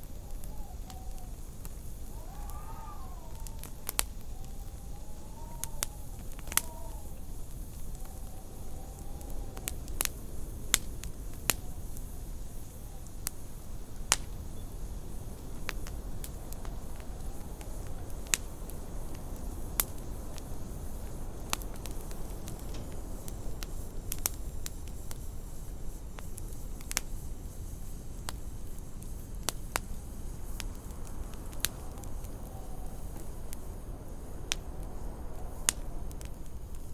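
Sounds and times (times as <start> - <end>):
faint wind howl: 0.0 - 36.9
wood fire crackling: 0.0 - 36.9.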